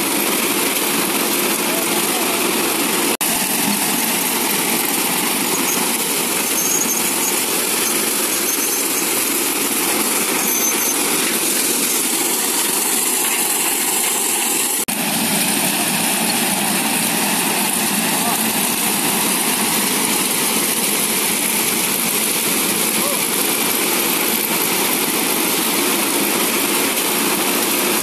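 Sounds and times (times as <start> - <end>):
tractor and harvester running: 0.0 - 28.0.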